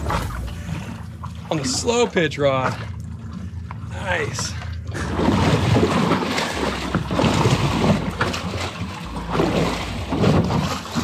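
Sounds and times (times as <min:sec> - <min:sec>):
low rumble: 0:00.0 - 0:11.0
water slapping boat hull: 0:00.0 - 0:11.0.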